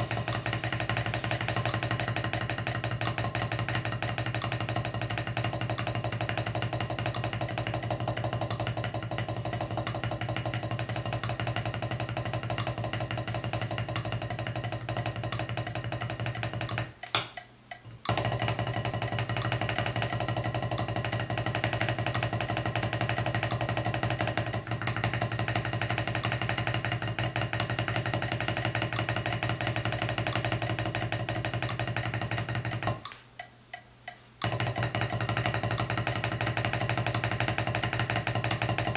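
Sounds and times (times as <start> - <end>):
count-in clicks: 0.0 - 38.9
drumsticks on practice pad: 0.0 - 38.9.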